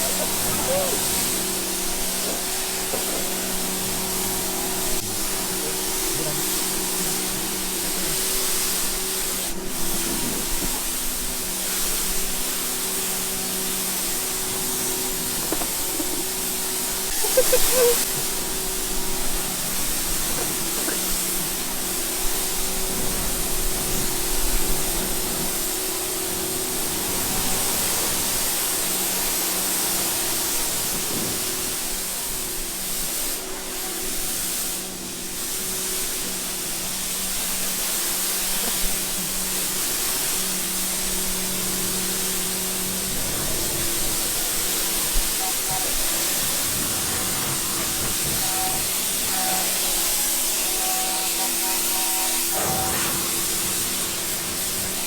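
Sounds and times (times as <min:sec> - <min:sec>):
water spraying hard: 0:00.0 - 0:55.0.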